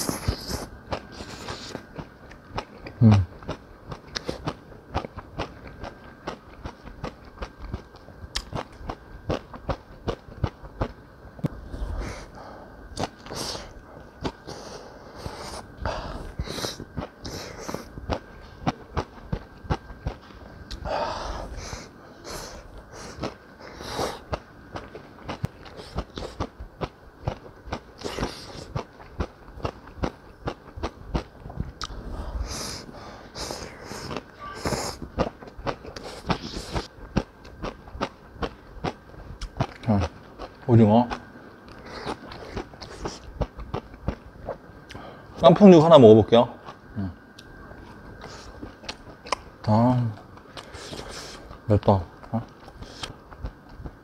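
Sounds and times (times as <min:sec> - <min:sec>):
man chewing noodles: 0:00.0 - 0:45.1, 0:46.6 - 0:54.0.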